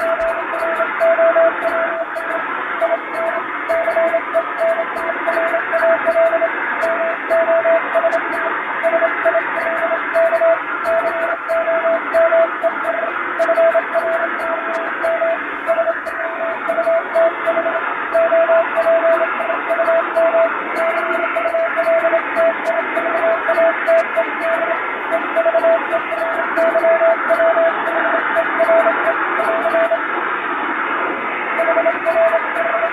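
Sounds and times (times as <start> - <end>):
morse code tone: 0.0 - 30.1, 31.5 - 32.9
shortwave radio hiss: 0.0 - 32.9.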